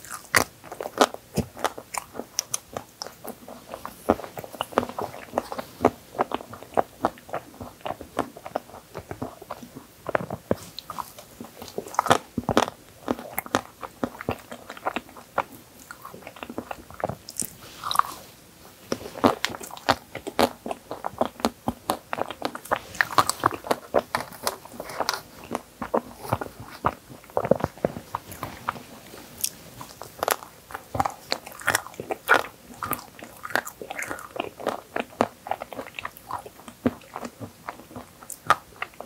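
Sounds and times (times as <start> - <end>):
crunching and chewing: 0.0 - 39.0.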